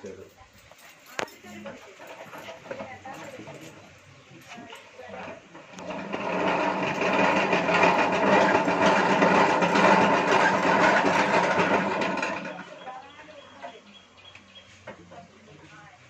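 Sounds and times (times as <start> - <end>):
honey extractor whirring: 1.4 - 16.0.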